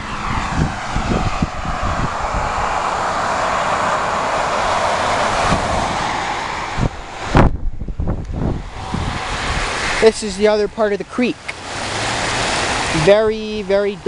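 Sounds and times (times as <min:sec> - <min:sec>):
tyres hissing on wet road: 0:00.0 - 0:07.5, 0:08.3 - 0:14.0.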